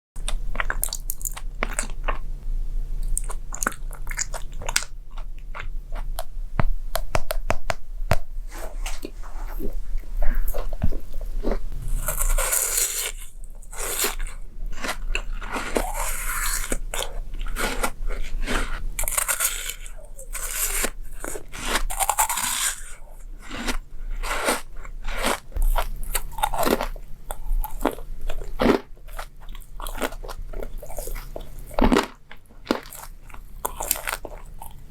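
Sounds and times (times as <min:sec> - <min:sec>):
crunchy chewing of food: 0:00.2 - 0:02.4, 0:03.0 - 0:06.4, 0:08.8 - 0:34.9
faint low hum: 0:00.2 - 0:34.9.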